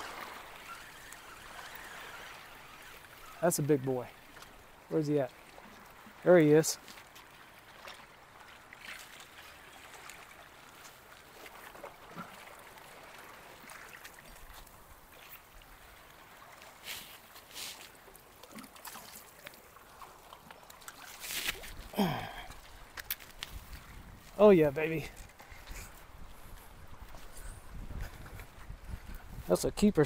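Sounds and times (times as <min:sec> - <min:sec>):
water lapping against rocks: 0:00.0 - 0:29.5.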